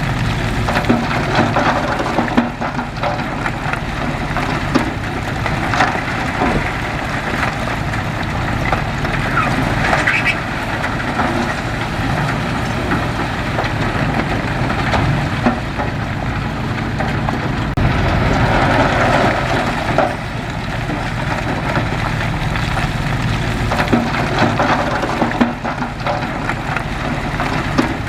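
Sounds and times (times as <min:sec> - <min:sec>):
heavy machinery diesel engine: 0:00.0 - 0:28.0.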